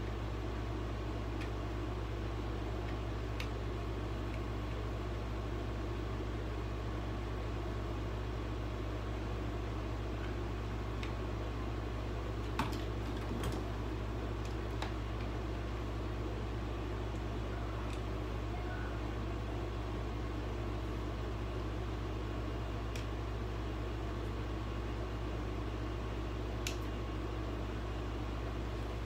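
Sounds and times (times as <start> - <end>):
appliance humming and whirring: 0.0 - 29.0.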